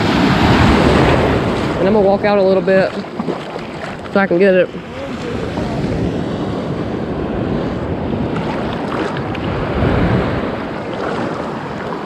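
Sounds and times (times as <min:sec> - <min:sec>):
small waves washing: 0:00.0 - 0:12.0
wind on microphone: 0:00.0 - 0:12.0.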